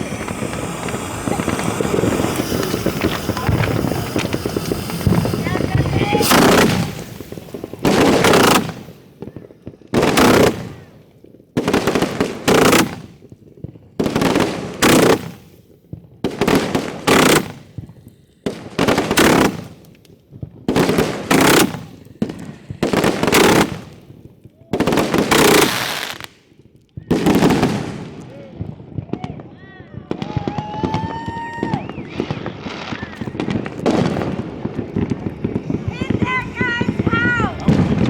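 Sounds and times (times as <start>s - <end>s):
fireworks booming: 0.0s - 29.2s, 30.0s - 38.0s.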